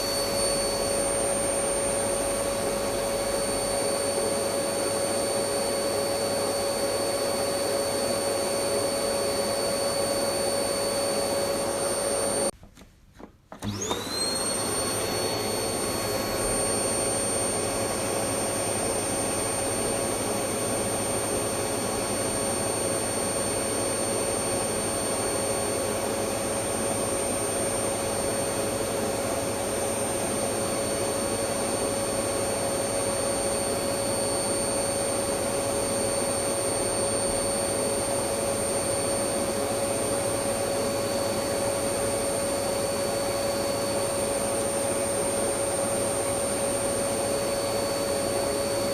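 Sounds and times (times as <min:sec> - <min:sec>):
vacuum cleaner motor whine: 0:00.0 - 0:12.5, 0:13.5 - 0:48.9.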